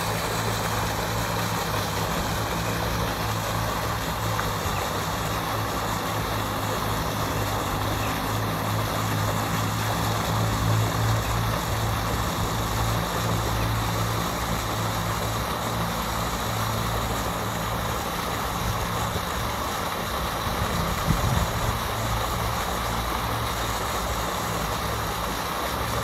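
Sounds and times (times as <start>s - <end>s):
fountain splashing into water: 0.0s - 26.0s
low mechanical hum: 0.0s - 26.0s.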